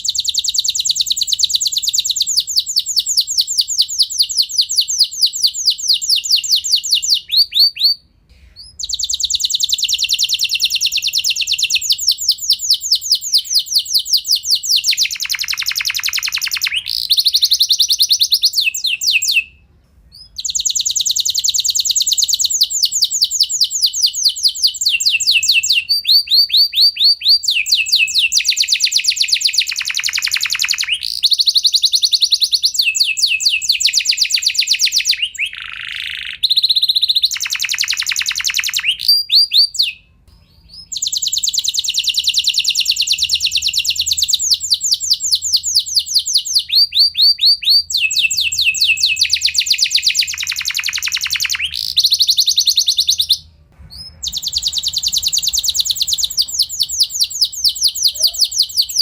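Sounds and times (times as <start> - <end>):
canary singing trilled song: 0.0 - 59.0.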